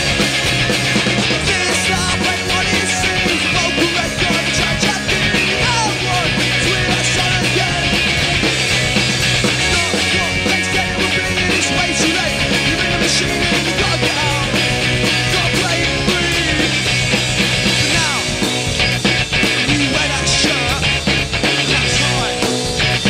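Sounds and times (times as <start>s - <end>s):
drum kit: 0.0s - 23.0s
electric guitars: 0.0s - 23.0s.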